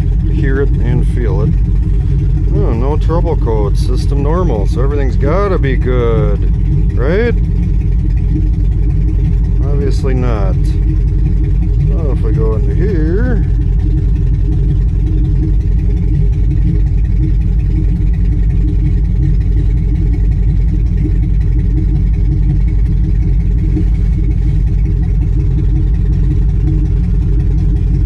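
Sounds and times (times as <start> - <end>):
car engine idling and misfiring: 0.0 - 28.0.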